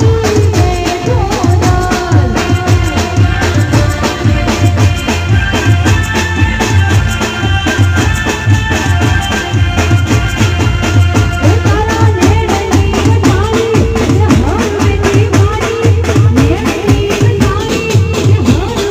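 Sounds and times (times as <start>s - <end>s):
band music through pa system: 0.0s - 18.9s.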